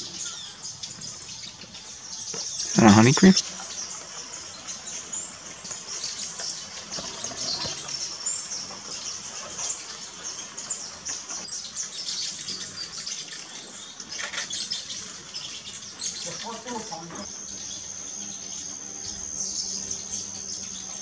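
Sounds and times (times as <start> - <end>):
birds chirping: 0.0 - 21.0
forest ambience hiss: 0.0 - 21.0.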